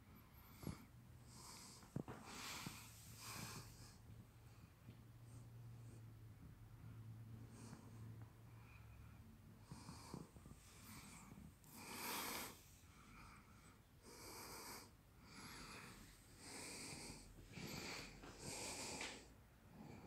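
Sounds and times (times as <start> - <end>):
faint breathing: 0.0 - 20.0.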